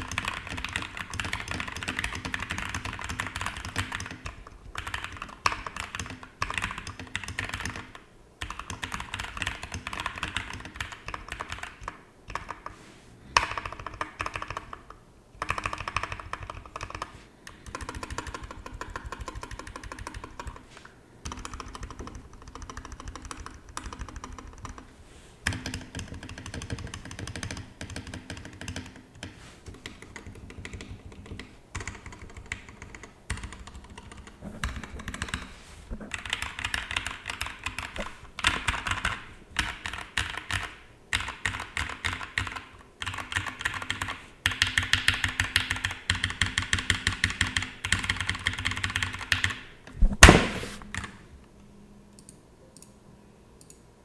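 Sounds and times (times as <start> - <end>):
typing on mechanical keyboard: 0.0 - 12.7, 13.4 - 20.6, 21.2 - 35.5, 36.1 - 49.6.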